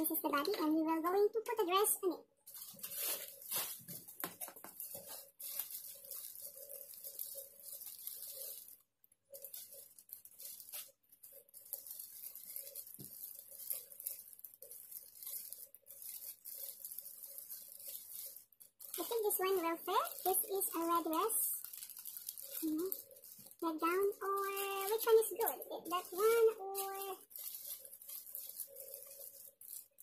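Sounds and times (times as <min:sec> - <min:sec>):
plastic bag crinkling: 0:00.2 - 0:30.0.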